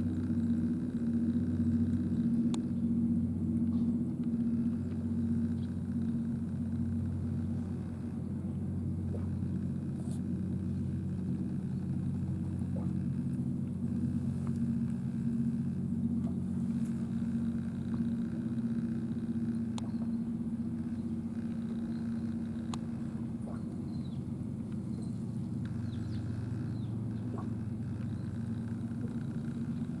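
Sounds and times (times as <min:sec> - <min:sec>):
faint ticks: 0:00.0 - 0:02.8, 0:03.6 - 0:08.3, 0:09.0 - 0:30.0
machine rumble and hum: 0:00.0 - 0:30.0.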